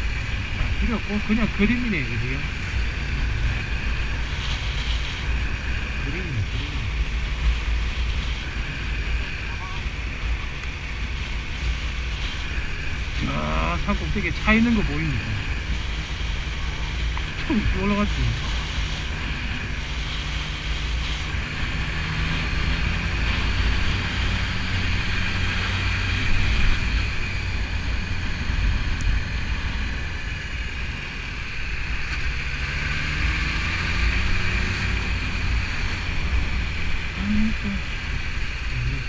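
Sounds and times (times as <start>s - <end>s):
motorcycle engine running: 0.0s - 39.0s
road noise: 0.0s - 39.0s
rushing wind: 0.0s - 39.0s.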